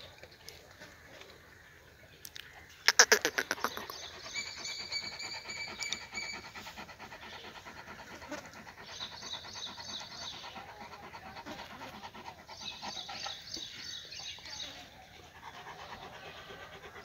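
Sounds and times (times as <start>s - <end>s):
dog panting: 2.9s - 17.0s.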